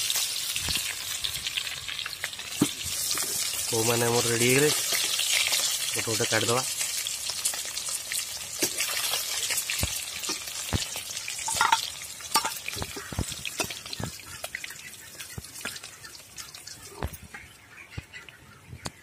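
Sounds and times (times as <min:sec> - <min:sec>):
oil sizzling: 0:00.0 - 0:17.3.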